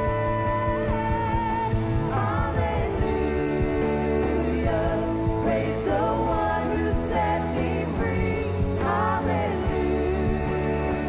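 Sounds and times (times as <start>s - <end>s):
person singing: 0.0s - 11.0s
worship band playing: 0.0s - 11.0s.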